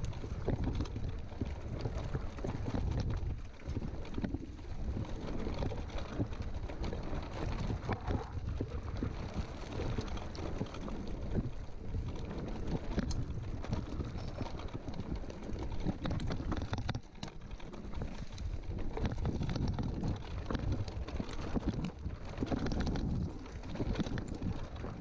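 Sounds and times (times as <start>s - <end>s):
bike rattles and knocks: 0.0s - 25.0s
tyres rolling over loose stones: 0.0s - 25.0s
wind rumble on microphone: 0.0s - 25.0s.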